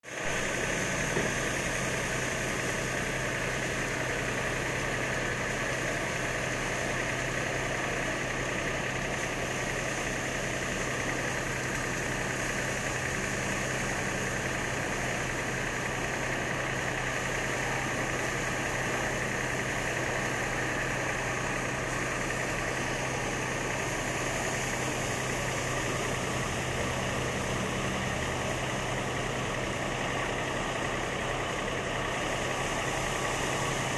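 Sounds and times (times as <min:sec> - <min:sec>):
harvesting machine engine hum: 0:00.1 - 0:33.9.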